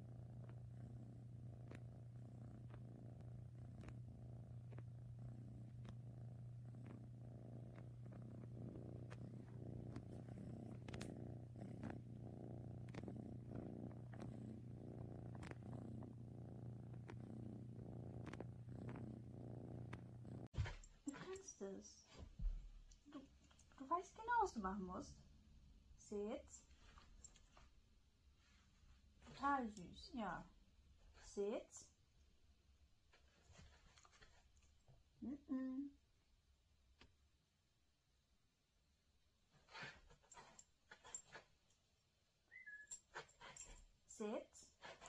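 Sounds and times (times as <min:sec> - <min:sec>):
cat purring: 0:00.0 - 0:32.3, 0:39.0 - 0:45.0.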